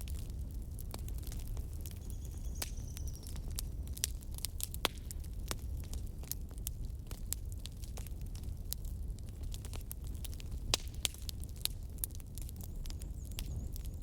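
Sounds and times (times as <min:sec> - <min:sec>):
campfire wood crackling: 0:00.0 - 0:14.0
low rumble of fire: 0:00.0 - 0:14.0.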